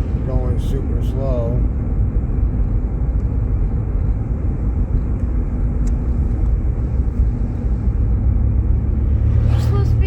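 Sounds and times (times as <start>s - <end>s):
road and engine noise in car cabin: 0.0s - 10.0s.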